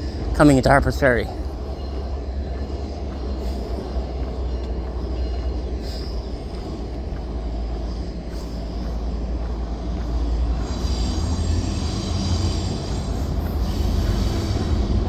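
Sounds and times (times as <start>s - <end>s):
train rumbling on bridge: 0.0s - 15.0s.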